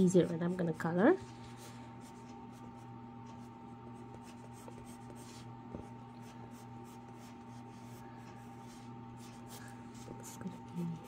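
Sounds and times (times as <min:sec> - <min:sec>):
pencil scratching on paper: 0:00.0 - 0:11.0
steady low hum: 0:00.0 - 0:11.0.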